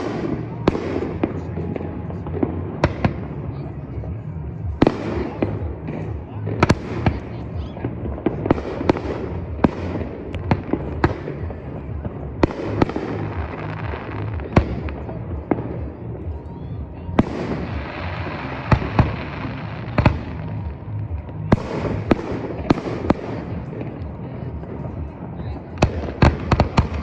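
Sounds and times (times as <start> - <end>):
background rumble: 0.0 - 27.0
fireworks exploding: 0.0 - 27.0.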